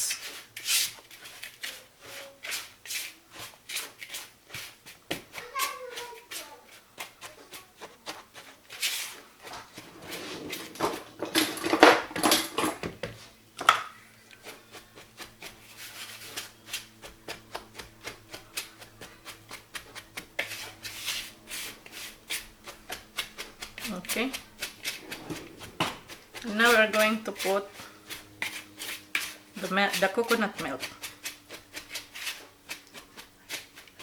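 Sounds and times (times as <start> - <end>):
utensil scraping dry mix in bowl: 0.2 - 11.3, 14.2 - 34.0.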